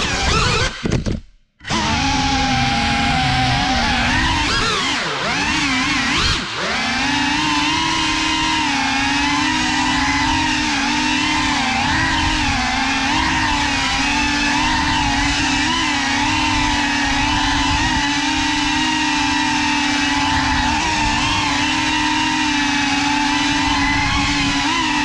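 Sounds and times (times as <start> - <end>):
drone motors whining: 0.0 - 1.0, 1.6 - 25.0.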